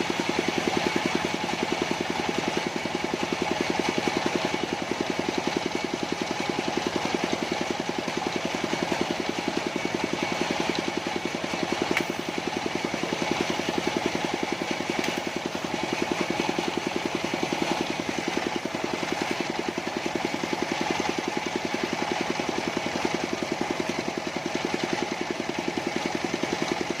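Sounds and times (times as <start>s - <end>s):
sawmill engine running: 0.0s - 27.0s.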